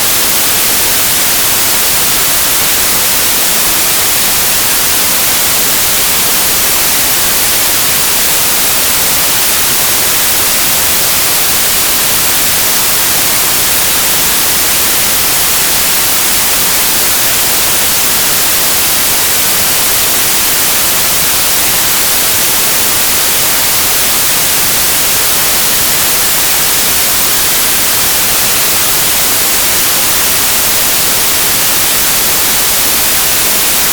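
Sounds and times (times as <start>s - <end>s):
steady white noise hiss: 0.0s - 33.9s.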